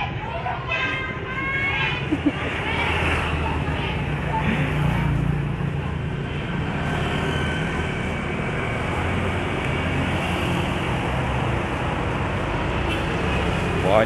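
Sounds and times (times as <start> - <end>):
passing scooters and motorbikes: 1.8 - 14.0.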